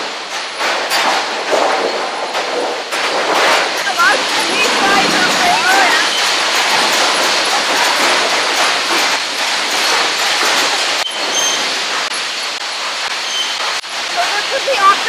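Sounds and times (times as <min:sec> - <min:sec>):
boards clattering on conveyors: 0:00.0 - 0:15.0
sawmill machinery din: 0:00.0 - 0:15.0.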